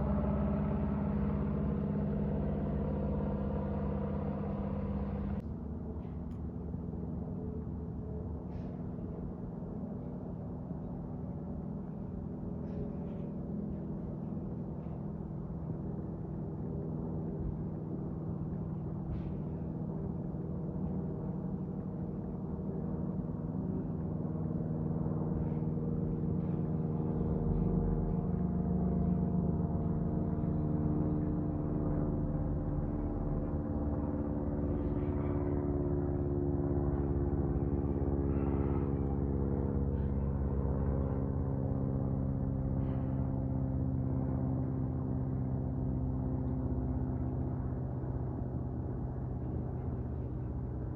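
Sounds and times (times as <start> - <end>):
aircraft engine hum: 0.0 - 50.9.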